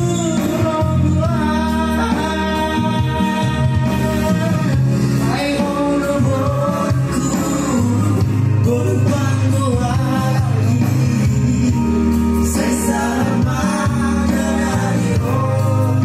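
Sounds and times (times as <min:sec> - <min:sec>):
instrumental backing track: 0:00.0 - 0:16.0
man singing a ballad: 0:00.0 - 0:16.0.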